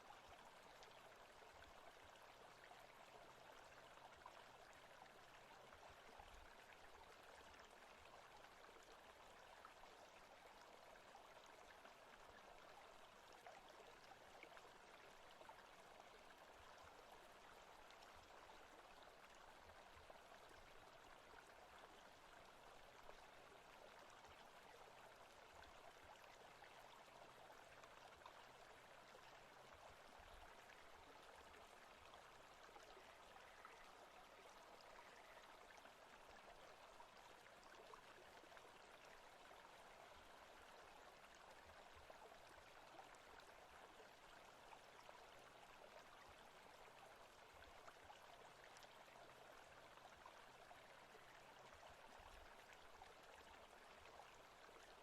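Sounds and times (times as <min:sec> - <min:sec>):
stream running water: 0:00.0 - 0:55.0.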